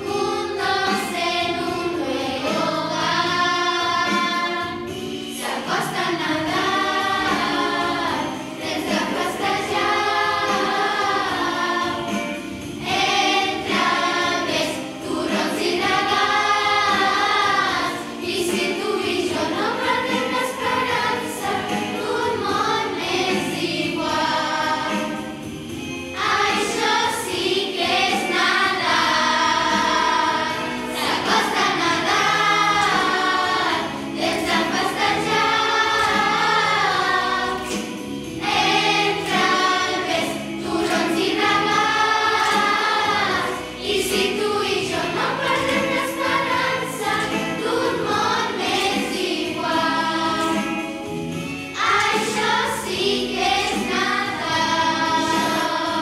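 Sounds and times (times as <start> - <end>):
girls choir singing a carol: 0.0 - 56.0
jingling percussion: 0.0 - 56.0.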